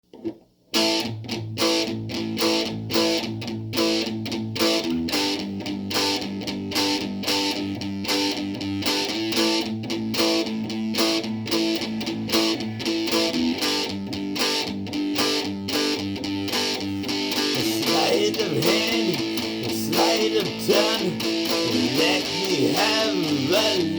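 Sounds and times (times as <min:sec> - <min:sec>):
strummed guitar: 0:00.1 - 0:23.9.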